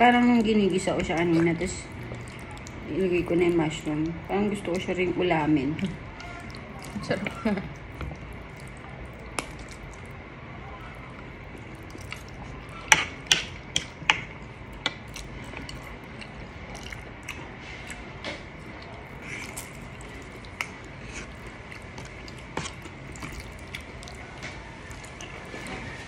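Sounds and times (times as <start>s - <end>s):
person chewing: 0.0s - 5.0s, 5.7s - 26.0s.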